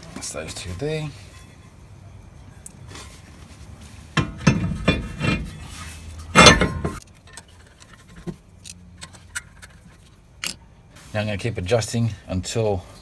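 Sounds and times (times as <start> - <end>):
metal clinking and scraping: 0.2 - 10.6.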